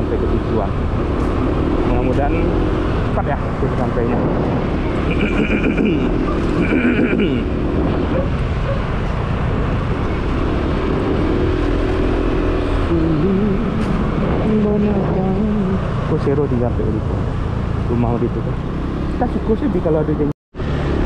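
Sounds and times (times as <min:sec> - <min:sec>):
wind and road rumble: 0:00.0 - 0:21.0.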